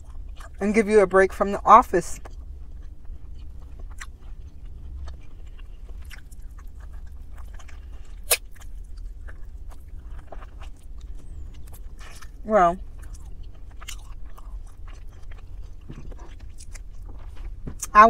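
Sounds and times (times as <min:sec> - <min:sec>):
person chewing chicken: 0:00.0 - 0:00.6, 0:02.2 - 0:17.9
low steady hum: 0:00.0 - 0:18.0.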